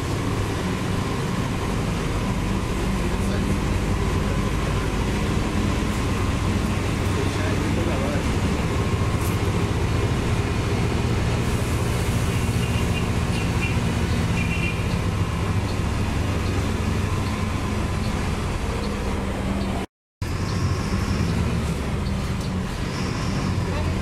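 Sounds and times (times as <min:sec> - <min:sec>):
bus engine hum: 0:00.0 - 0:24.0
road noise: 0:00.0 - 0:24.0.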